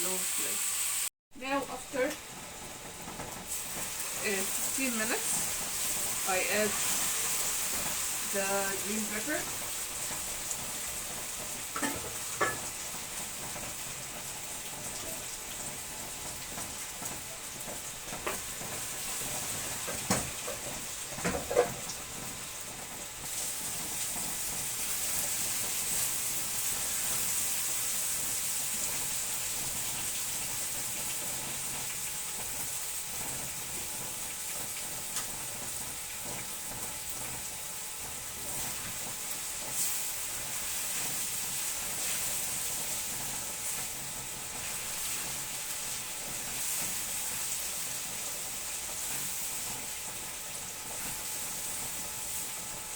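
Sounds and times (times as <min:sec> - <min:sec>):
food sizzling in a frying pan: 0:00.0 - 0:52.9.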